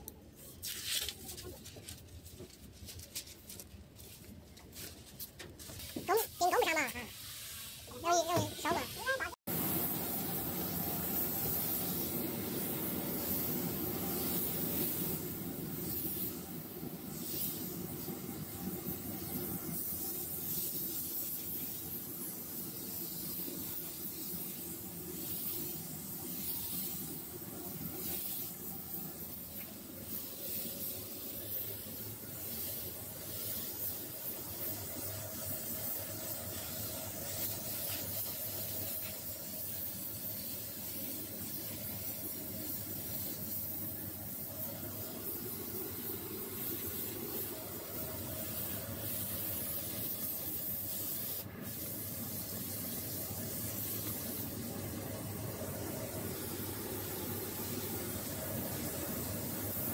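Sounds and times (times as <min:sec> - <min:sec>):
spray gun hissing: 0:05.7 - 0:59.9.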